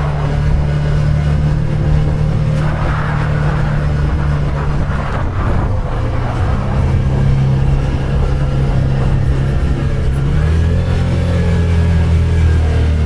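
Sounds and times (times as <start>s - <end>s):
utv engine running: 0.0s - 13.0s.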